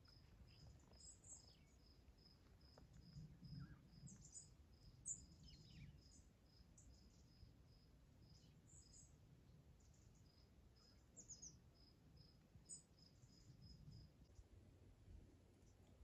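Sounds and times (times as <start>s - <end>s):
insect chirping: 0.0s - 9.1s, 9.9s - 14.4s
faint low rumble: 0.0s - 16.0s.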